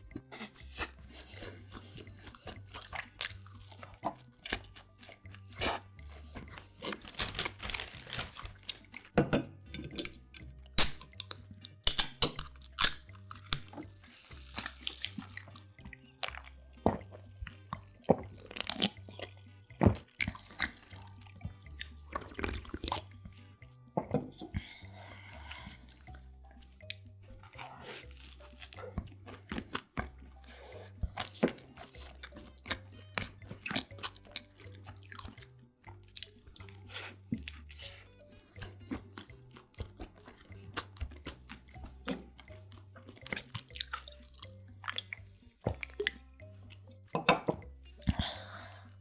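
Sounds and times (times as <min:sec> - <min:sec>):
chewing and biting sandwich: 0:00.0 - 0:09.2, 0:12.4 - 0:47.0
soft background music: 0:00.0 - 0:49.0.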